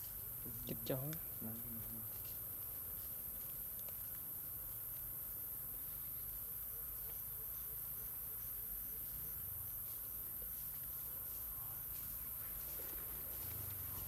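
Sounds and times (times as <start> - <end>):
insects trilling drone: 0.0 - 14.0.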